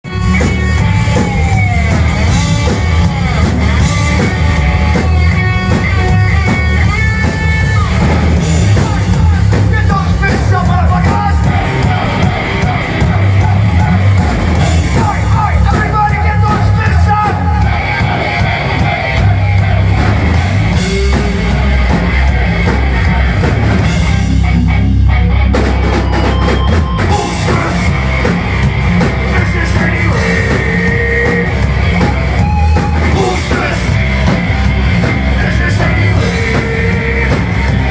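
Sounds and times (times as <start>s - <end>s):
bass guitar: 0.0s - 37.9s
distorted electric guitars: 0.0s - 37.9s
drum kit: 0.0s - 37.9s.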